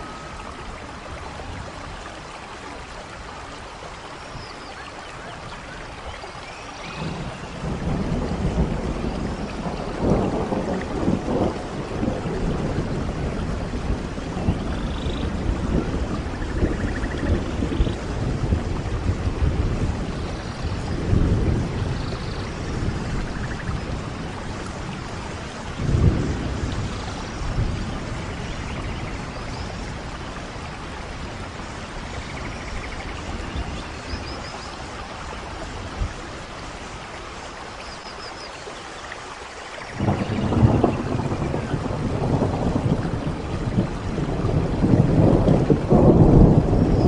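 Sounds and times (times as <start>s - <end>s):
rain hiss: 0.0s - 47.0s
low rolling thunder: 6.8s - 37.4s, 39.9s - 47.0s.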